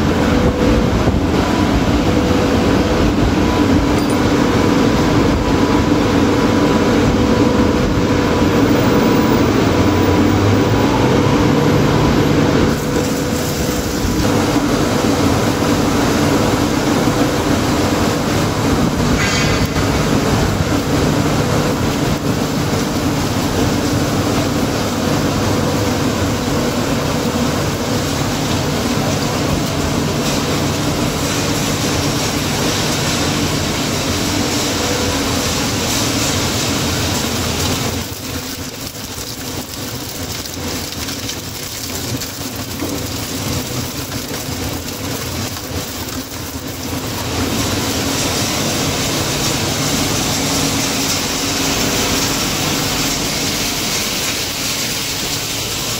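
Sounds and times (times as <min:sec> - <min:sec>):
industrial crushing machinery din: 0:00.0 - 0:55.9.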